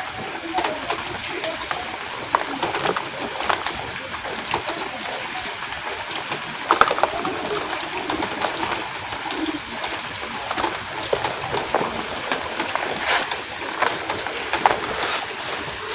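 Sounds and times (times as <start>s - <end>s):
sharp crackles: 0.0s - 15.9s
steady falling rain: 0.0s - 15.9s
chalk crumbling and crunching: 0.6s - 5.5s, 6.2s - 15.9s.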